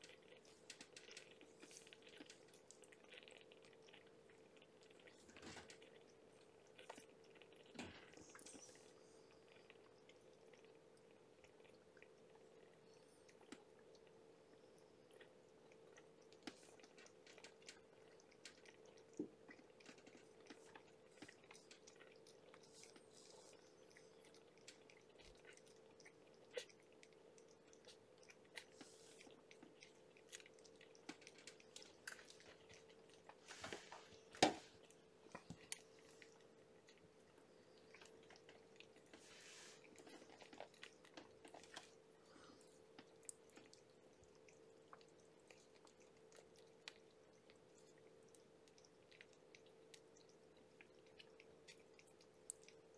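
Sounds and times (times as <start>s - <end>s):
kittens suckling: 0.0s - 52.9s.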